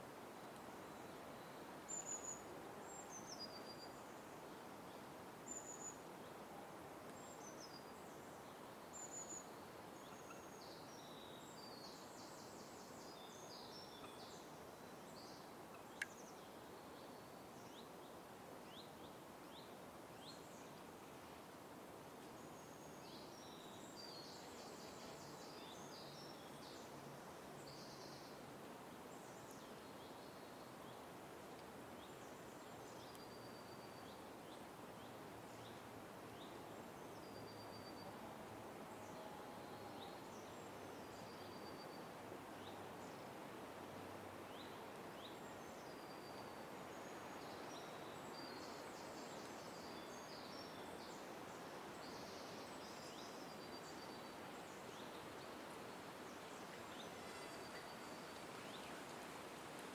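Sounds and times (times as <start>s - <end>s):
background hiss: 0.0s - 59.9s
small birds chirping faintly: 0.0s - 59.9s.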